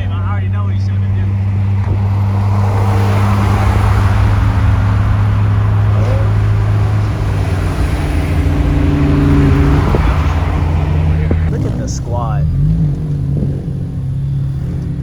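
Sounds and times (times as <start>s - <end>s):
car engine running: 0.0s - 15.0s
road noise: 0.0s - 15.0s.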